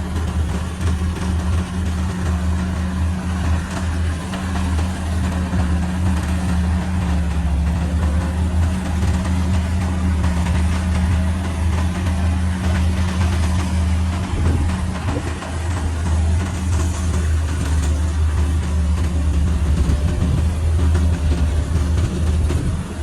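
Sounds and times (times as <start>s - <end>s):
diesel engine droning: 0.0s - 23.0s
machinery noise: 0.0s - 23.0s.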